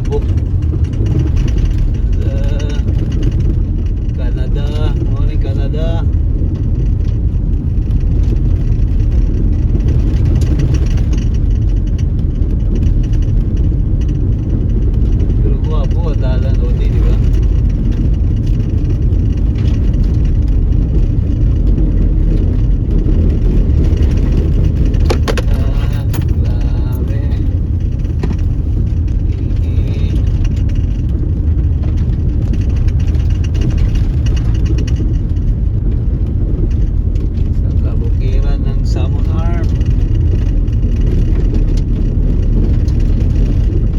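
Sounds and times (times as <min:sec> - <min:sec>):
car tyres rumbling on dirt road: 0:00.0 - 0:43.9
ticks and rattles: 0:00.0 - 0:43.9.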